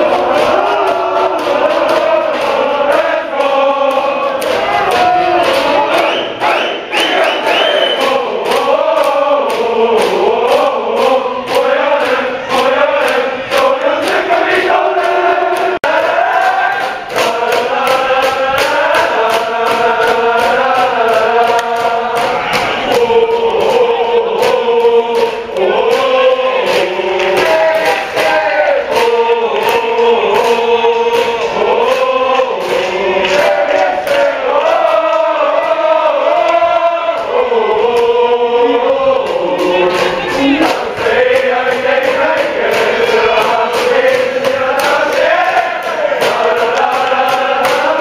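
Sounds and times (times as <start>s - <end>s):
crowd singing in unison: 0.0s - 48.0s
steady beat: 0.0s - 48.0s.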